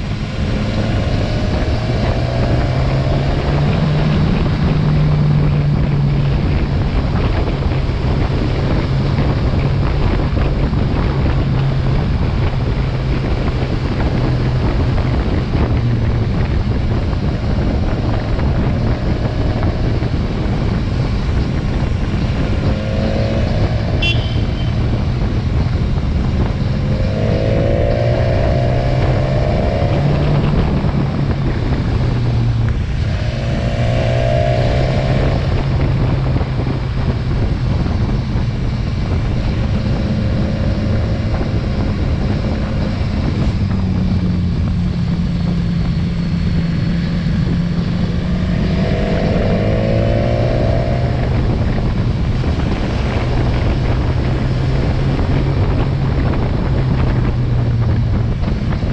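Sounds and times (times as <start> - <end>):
motorcycle engine accelerating: 0.0 - 58.9
riding wind noise: 0.0 - 58.9.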